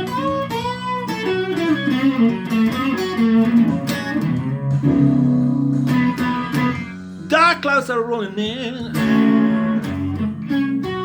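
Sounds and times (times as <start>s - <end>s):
electric guitar blues fill: 0.0s - 11.0s.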